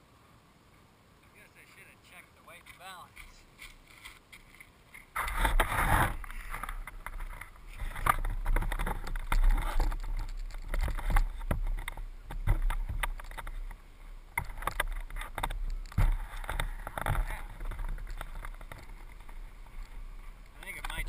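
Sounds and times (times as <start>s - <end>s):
handling knocks and scrapes: 2.6s - 21.0s.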